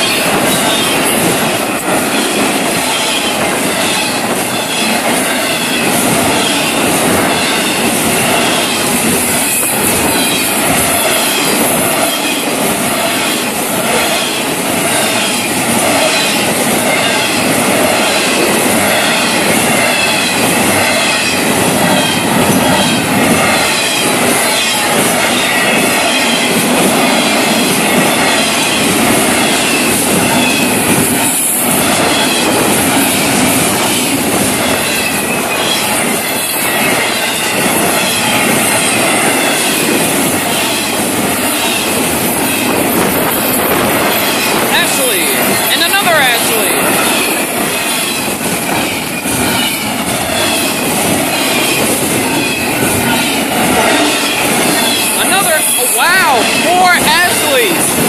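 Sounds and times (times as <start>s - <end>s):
train wheels rumbling and clicking: 0.0s - 58.0s.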